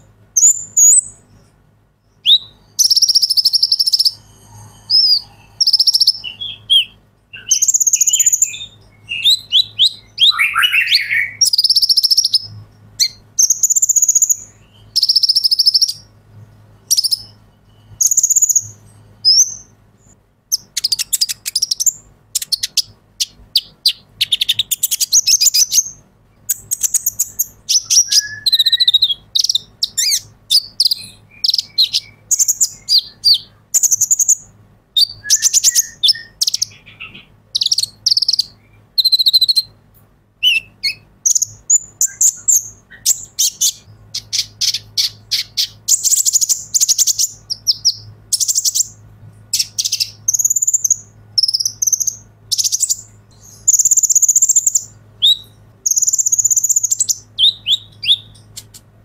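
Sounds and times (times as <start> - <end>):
sunbird twittering song: 0.0 - 39.8, 40.4 - 58.8.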